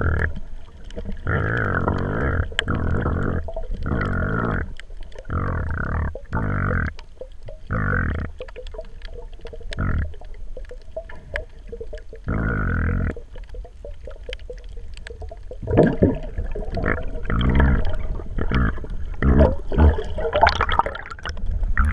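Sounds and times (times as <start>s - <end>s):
underwater bubbling and gurgling: 0.0s - 21.9s.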